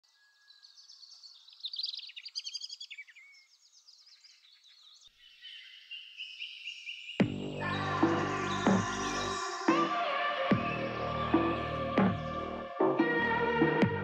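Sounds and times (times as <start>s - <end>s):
songbirds chirping and trilling: 0.0s - 13.7s.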